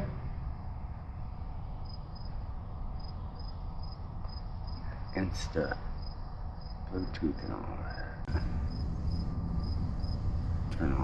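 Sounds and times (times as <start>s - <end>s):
low background hum: 0.0s - 11.0s
crickets chirping: 0.5s - 11.0s.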